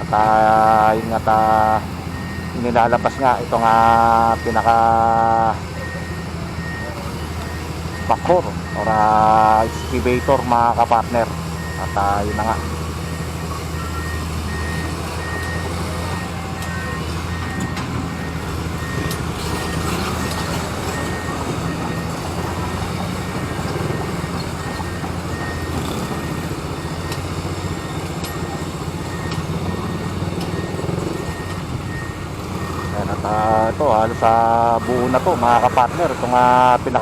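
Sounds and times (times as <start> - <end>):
diesel engine running: 0.0 - 37.0
reversing alarm beeping: 0.0 - 37.0.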